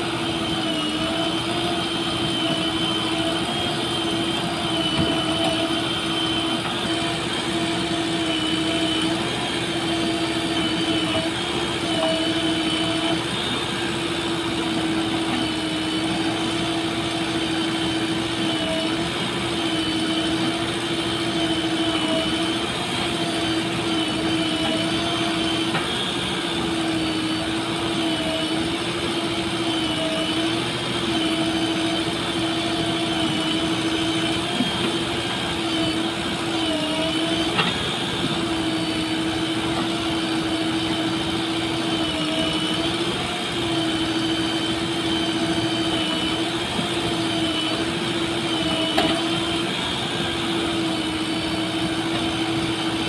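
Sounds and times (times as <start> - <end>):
diesel engines running: 0.0 - 53.0.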